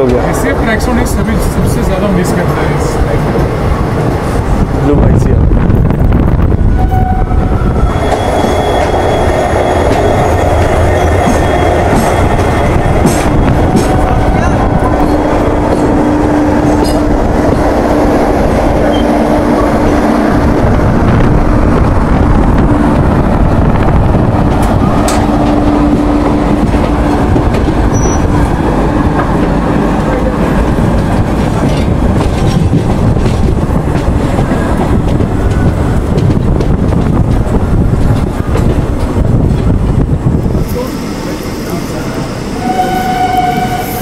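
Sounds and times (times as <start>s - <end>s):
train wheels rumbling and clattering: 0.0s - 44.0s.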